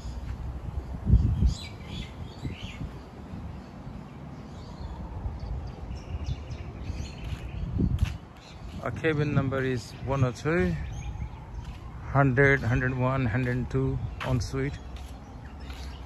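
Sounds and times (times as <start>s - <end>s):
birds calling: 1.1s - 16.0s.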